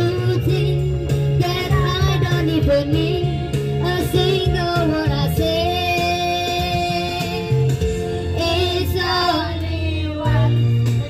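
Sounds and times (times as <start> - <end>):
karaoke backing track: 0.0 - 11.0.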